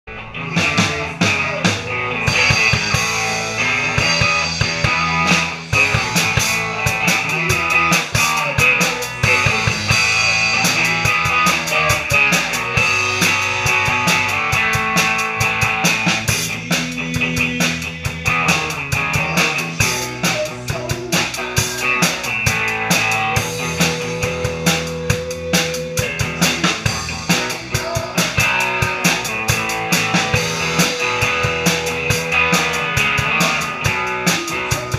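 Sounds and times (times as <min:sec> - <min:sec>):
rock band playing live: 0:00.1 - 0:34.9
drum kit and cymbals: 0:00.3 - 0:34.9.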